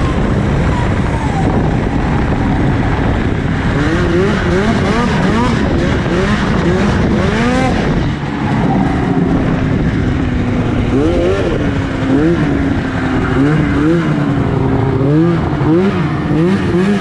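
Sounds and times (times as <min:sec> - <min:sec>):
snowmobile engine revving: 0:02.9 - 0:17.0.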